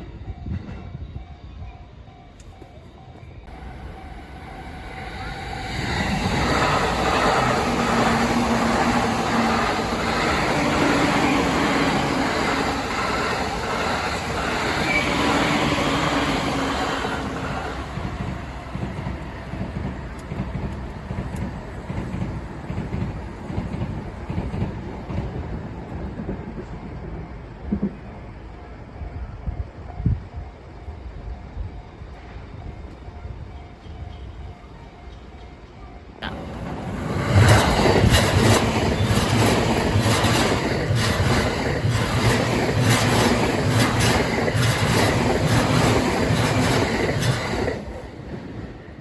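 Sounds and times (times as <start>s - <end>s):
train passing close by: 0.0s - 49.0s.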